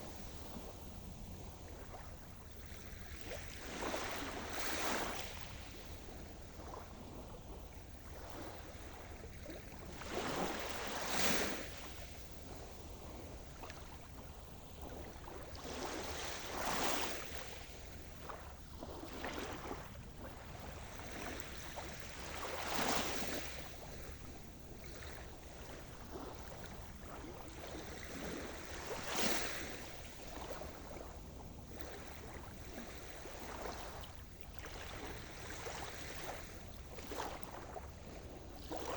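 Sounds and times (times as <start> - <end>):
low rumble of sea: 0.0 - 38.9
waves breaking on shore: 0.0 - 38.9.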